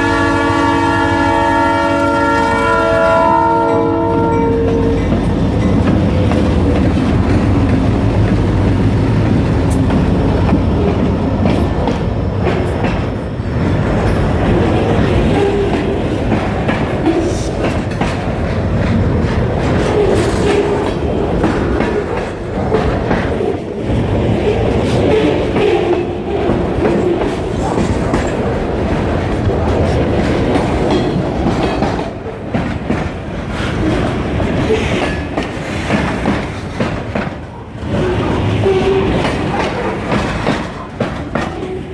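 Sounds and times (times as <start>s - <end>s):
locomotive engines droning: 0.0s - 36.1s
train wheels clickety-clack: 0.0s - 41.9s.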